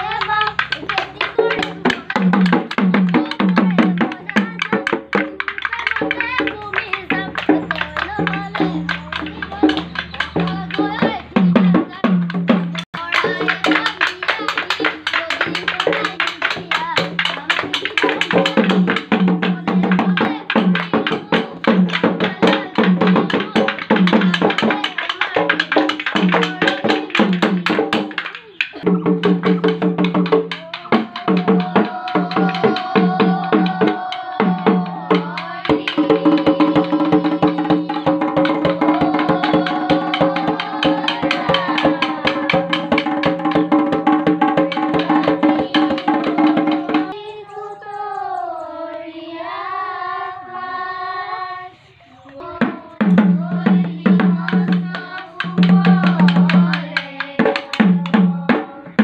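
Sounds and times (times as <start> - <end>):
bamboo clappers clacking: 0.0 - 47.3, 54.0 - 59.0
drum beating fast rhythm: 0.0 - 48.9, 52.4 - 59.0
voices singing together: 0.0 - 59.0.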